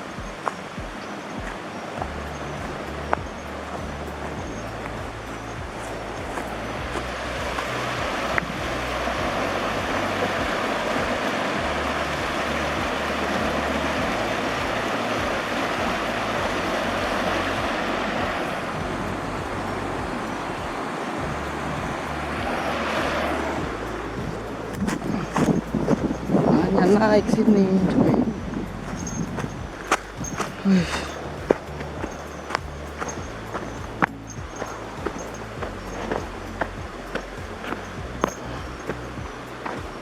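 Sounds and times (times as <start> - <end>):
fast-flowing stream rushing: 0.0 - 40.0
wind rumble on microphone: 0.0 - 40.0.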